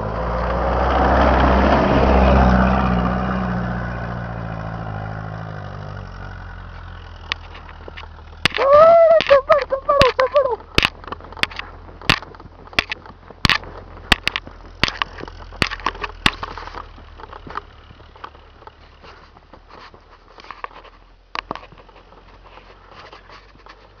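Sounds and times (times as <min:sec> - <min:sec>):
snow crunching: 0:01.8 - 0:24.0.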